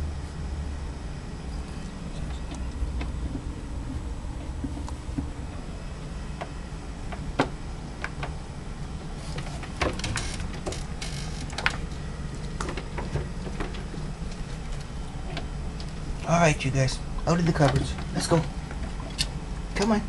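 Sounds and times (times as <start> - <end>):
steady low rumble: 0.0 - 19.8.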